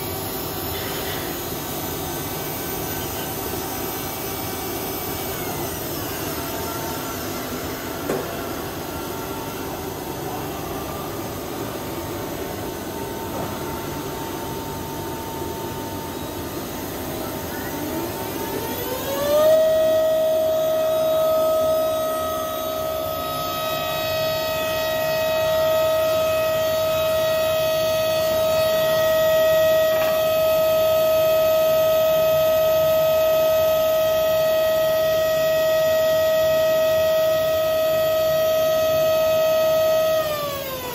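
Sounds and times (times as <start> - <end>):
grinding machine running: 0.0 - 40.9
grinding spindle whine: 0.0 - 40.9.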